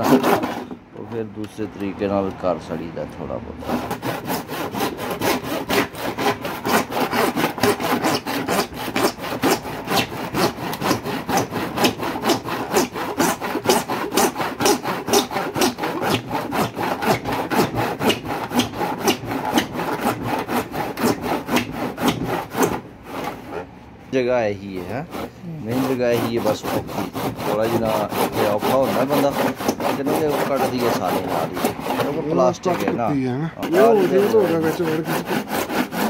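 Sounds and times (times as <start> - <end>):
handsaw cutting plastic: 0.0 - 1.9, 3.4 - 23.7, 24.5 - 36.0.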